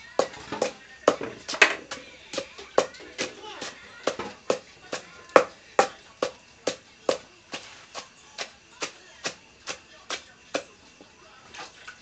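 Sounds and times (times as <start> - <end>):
pestle pounding in a mortar: 0.0 - 11.1.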